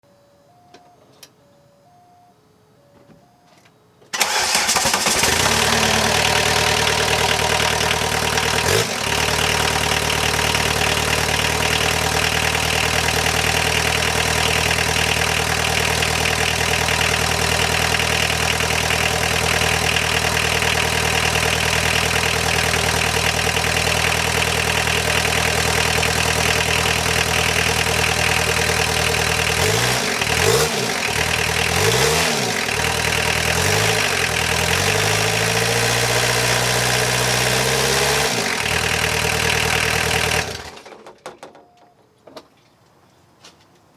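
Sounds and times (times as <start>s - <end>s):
diesel engine starting and idling: 4.1s - 41.0s.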